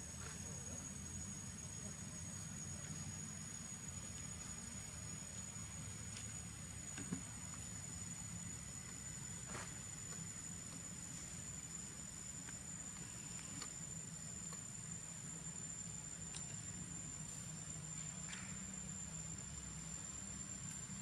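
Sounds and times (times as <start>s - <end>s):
faint chirps: 0.0s - 21.0s
high-pitched insect drone: 0.0s - 21.0s.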